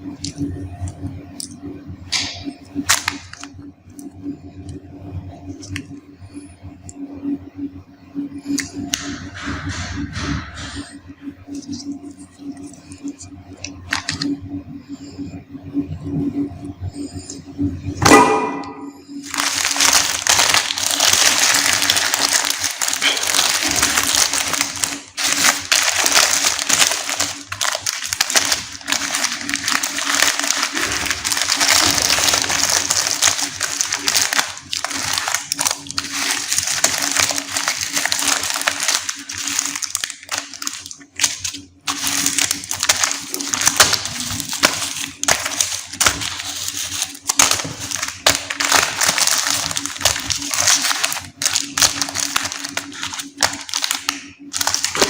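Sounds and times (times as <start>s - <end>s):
candy wrappers crinkling: 0.0s - 4.2s, 5.4s - 6.0s, 10.8s - 14.4s, 19.1s - 55.0s
steady low hum: 0.0s - 55.0s.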